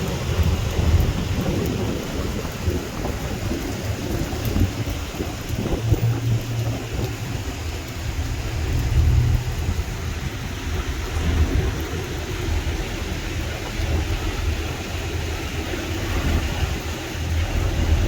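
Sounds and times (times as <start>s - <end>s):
tyres hissing on wet road: 0.0s - 18.0s
vehicle engines rumbling: 0.0s - 18.0s.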